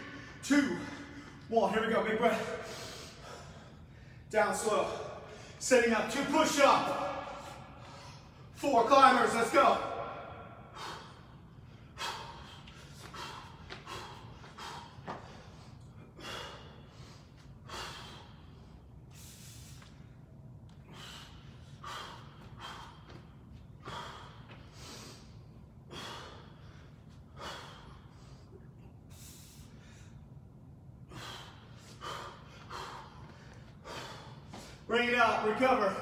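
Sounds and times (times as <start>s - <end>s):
man breathing hard: 0.0s - 5.7s, 9.6s - 36.0s
steady low hum: 0.0s - 36.0s.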